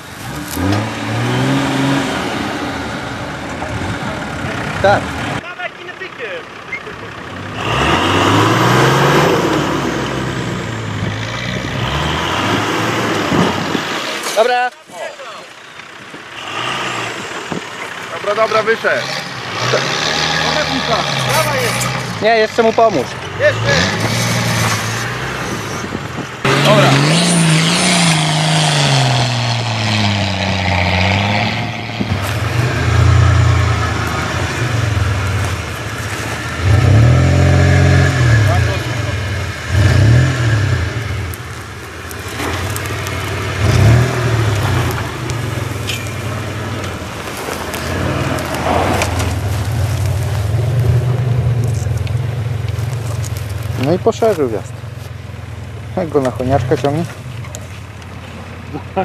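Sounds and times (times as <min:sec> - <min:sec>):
off-road engine revving hard: 0:00.0 - 0:05.4, 0:06.8 - 0:14.7, 0:16.2 - 0:54.8, 0:55.9 - 0:57.6
tyres spraying dirt: 0:00.0 - 0:59.0.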